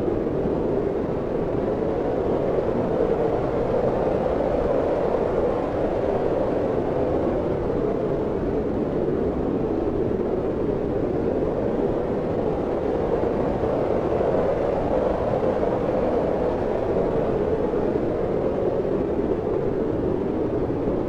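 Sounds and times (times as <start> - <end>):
wind blowing steadily: 0.0 - 21.0.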